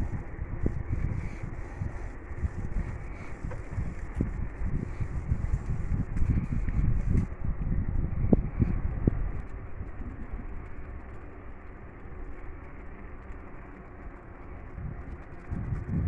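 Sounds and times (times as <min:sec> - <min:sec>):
wind rushing over microphone: 0:00.0 - 0:11.7, 0:14.6 - 0:16.0
bicycle road noise: 0:00.0 - 0:16.0.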